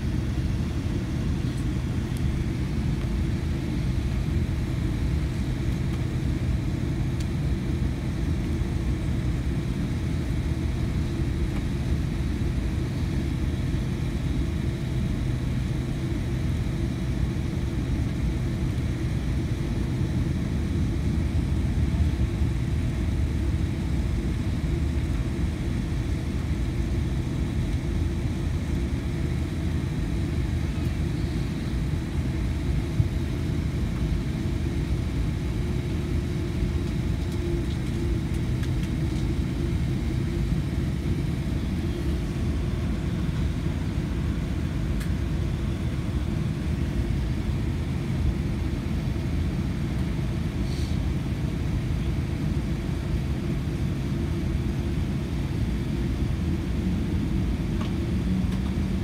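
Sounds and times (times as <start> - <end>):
aircraft cabin rumble while taxiing: 0.0 - 59.0.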